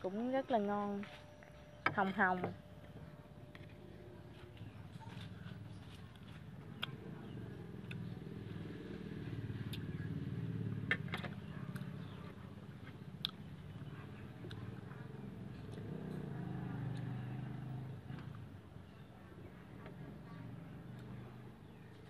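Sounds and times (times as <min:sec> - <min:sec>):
passing vehicle engine rumble: 0:02.6 - 0:22.0.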